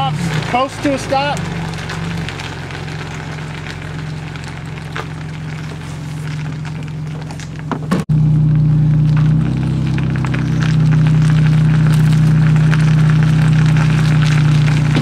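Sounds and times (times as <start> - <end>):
crackling and clicking: 0.0 - 7.8, 9.0 - 15.0
truck engine drone: 0.0 - 15.0.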